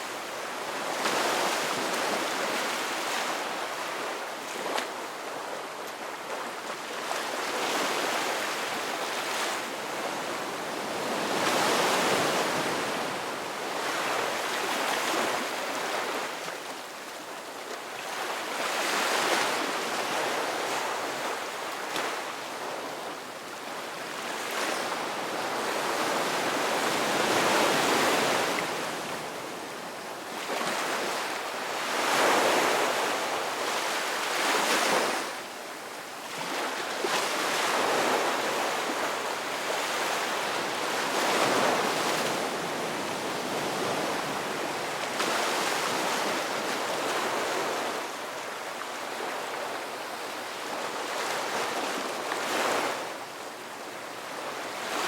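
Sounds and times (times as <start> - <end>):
ocean waves washing onto shore: 0.0 - 55.0.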